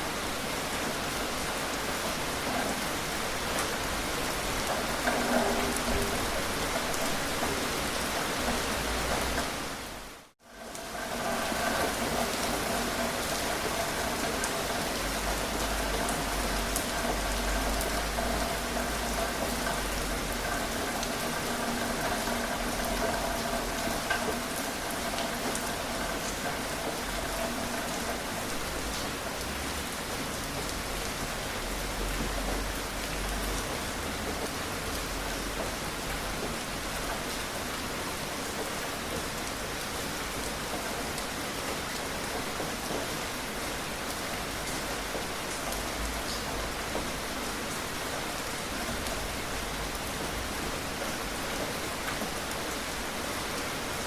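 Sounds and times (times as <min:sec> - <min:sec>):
individual raindrops: 0:00.0 - 0:54.0
steady rain falling: 0:00.0 - 0:54.0.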